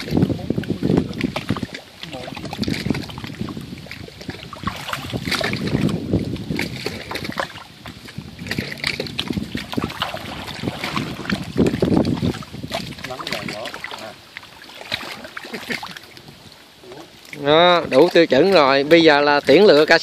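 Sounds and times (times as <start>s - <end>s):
fish splashing in shallow water: 0.0s - 20.0s.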